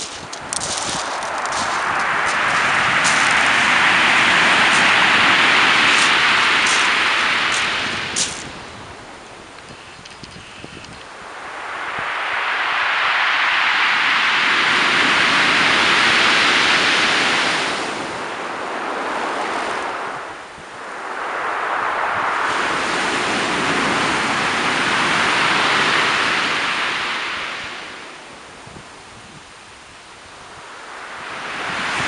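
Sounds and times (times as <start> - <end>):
surf washing over shingle: 0.0 - 10.1, 11.0 - 28.6, 30.4 - 32.0.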